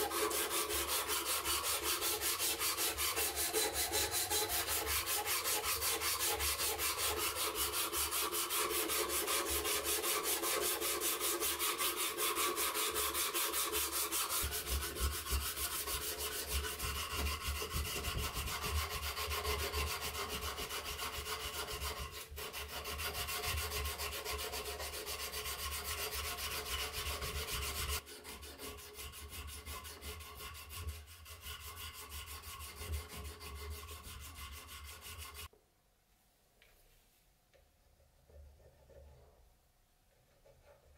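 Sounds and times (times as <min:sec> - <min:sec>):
sandpaper rasping on wood: 0:00.0 - 0:35.5.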